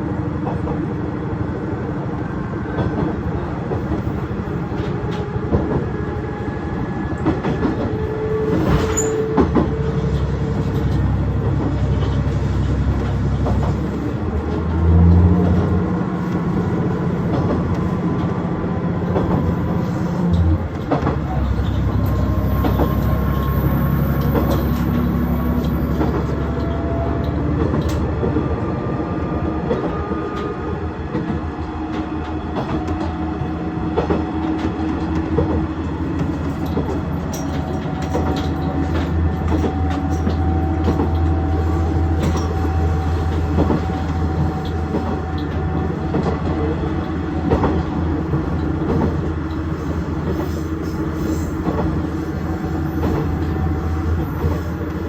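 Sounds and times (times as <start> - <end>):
diesel railcar engine drone: 0.0 - 55.0.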